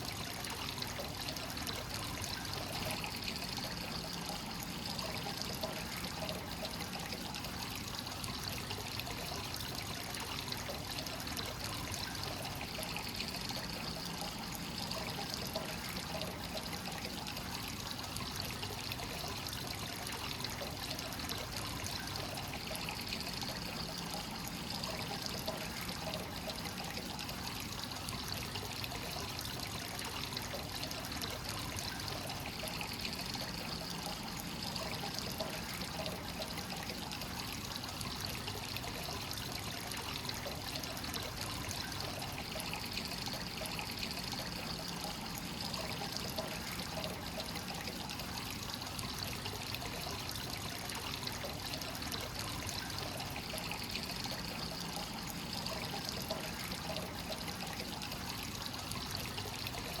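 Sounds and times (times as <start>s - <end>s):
water pouring into a stone bath: 0.0s - 60.0s.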